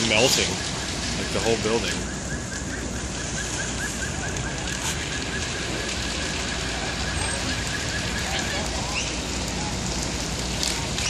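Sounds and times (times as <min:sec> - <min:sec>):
fire crackling: 0:00.0 - 0:11.0.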